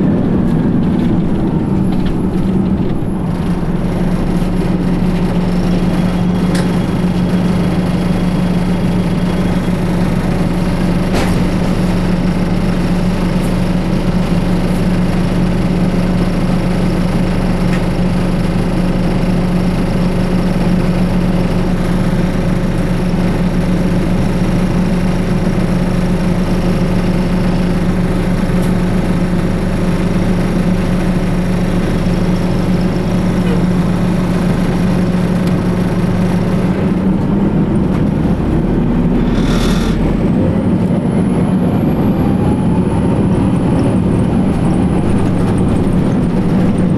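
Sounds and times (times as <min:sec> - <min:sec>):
bus diesel engine idling: 0:00.0 - 0:46.9.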